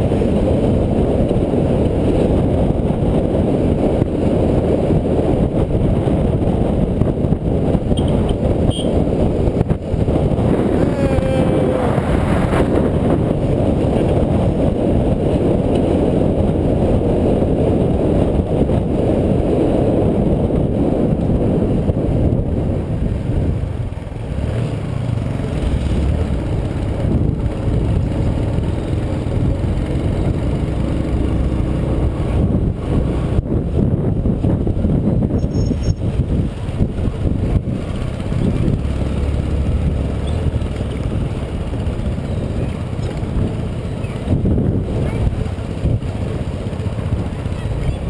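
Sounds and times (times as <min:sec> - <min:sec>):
motorcycle engine: 0:00.0 - 0:48.0
road and wind noise: 0:00.0 - 0:48.0.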